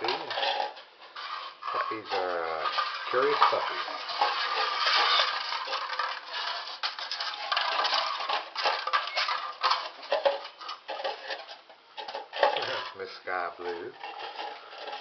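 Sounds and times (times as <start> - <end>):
plastic cups and can clattering: 0.0 - 15.0.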